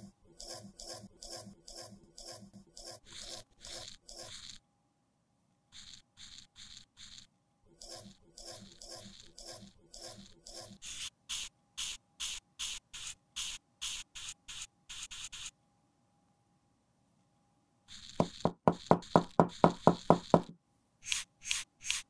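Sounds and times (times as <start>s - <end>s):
tool scraping pressed powder: 0.0s - 4.6s, 5.7s - 15.6s, 17.9s - 22.0s.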